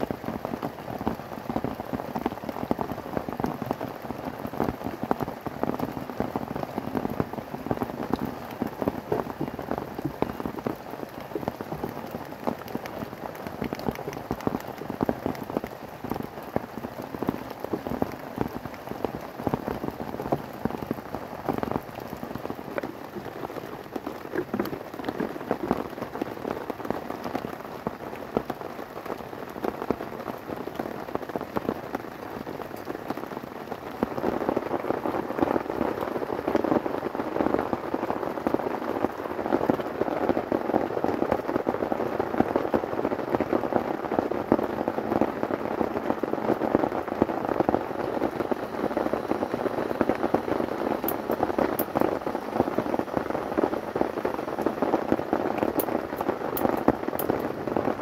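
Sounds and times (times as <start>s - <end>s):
rain on a tent: 0.0s - 58.0s.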